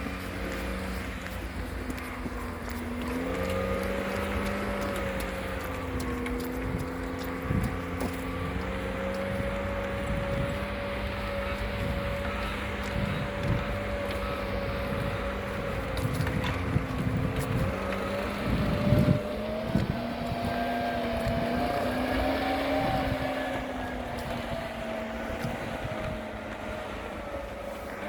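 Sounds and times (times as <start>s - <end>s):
vehicle engine running steadily: 0.0s - 28.0s.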